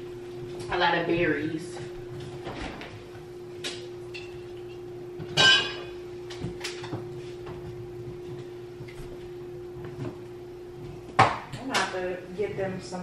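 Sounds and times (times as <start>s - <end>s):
refrigerator hum: 0.0s - 13.0s.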